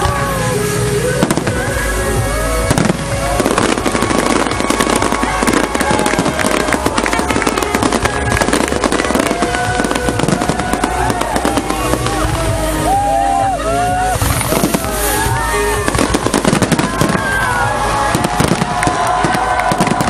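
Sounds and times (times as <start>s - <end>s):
fireworks pops and bangs: 0.0s - 20.0s.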